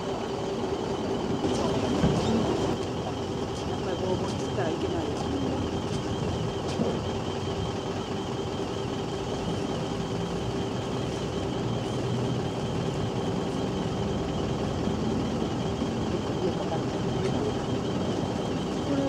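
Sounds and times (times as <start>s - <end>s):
helicopter turbine engines idling: 0.0s - 19.0s.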